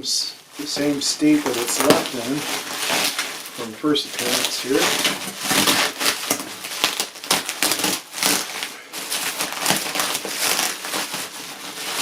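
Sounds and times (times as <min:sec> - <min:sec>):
packing material crinkling: 0:00.1 - 0:12.0.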